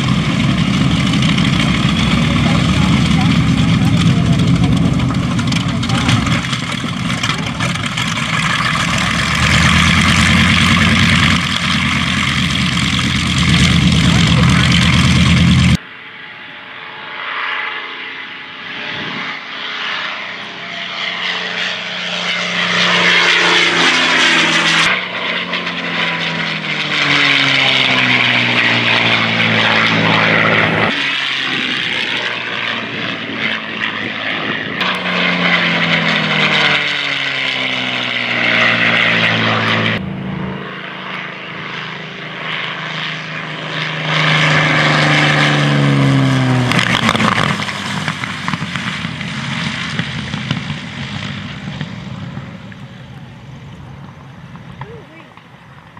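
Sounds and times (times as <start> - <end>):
propeller plane engine flying past: 0.0 - 55.9.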